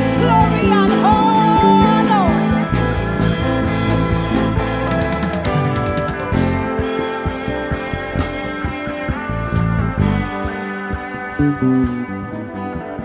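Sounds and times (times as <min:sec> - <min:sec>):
drum kit beat: 0:00.0 - 0:13.0
worship band playing: 0:00.0 - 0:13.0.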